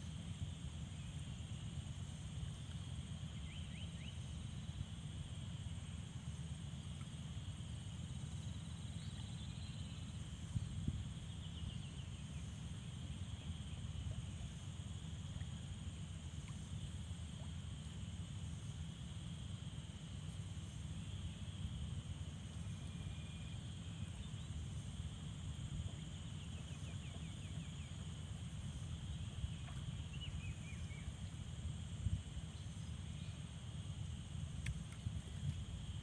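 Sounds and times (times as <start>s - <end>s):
insect chorus buzzing: 0.0s - 36.0s.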